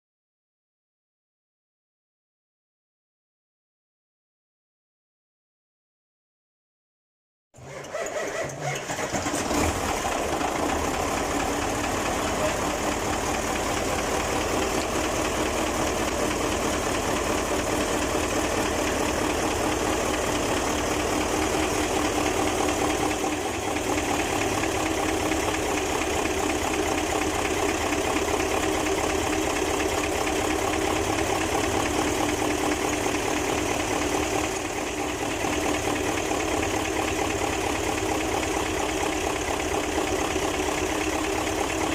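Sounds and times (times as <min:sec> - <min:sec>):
diesel engine idling: 0:07.7 - 0:41.9.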